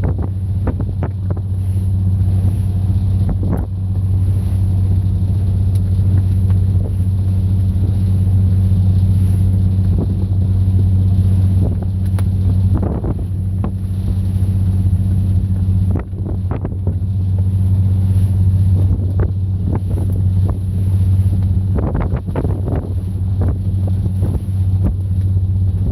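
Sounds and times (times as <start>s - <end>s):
boat diesel engine drone: 0.0s - 25.9s
wind on microphone: 0.0s - 25.9s.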